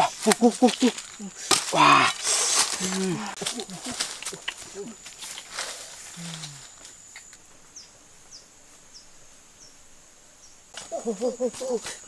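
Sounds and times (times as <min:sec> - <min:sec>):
high insect buzz: 0:00.0 - 0:12.0.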